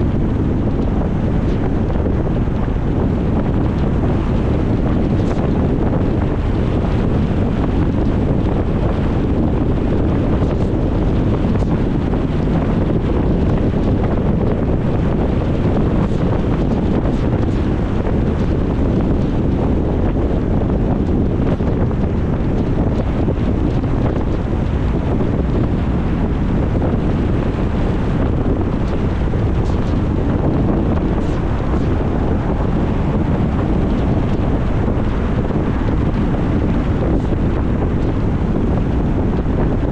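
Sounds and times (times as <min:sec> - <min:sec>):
car driving on road: 0:00.0 - 0:39.9
wind buffeting microphone: 0:00.0 - 0:39.9.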